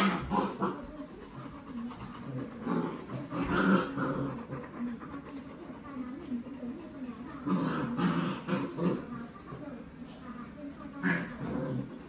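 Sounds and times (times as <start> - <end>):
dogs growling while playing: 0.0 - 6.2, 6.8 - 9.6, 11.0 - 12.0.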